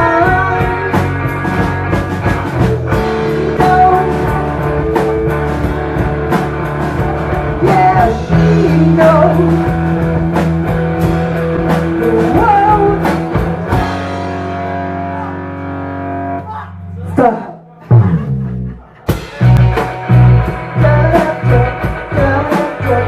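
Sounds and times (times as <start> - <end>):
drums beating: 0.0 - 14.6, 17.9 - 23.0
bass guitar: 0.0 - 23.0.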